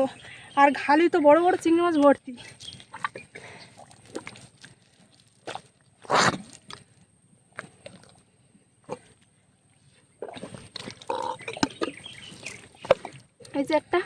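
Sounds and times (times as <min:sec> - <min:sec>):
water splashing and sloshing: 0:01.4 - 0:14.0.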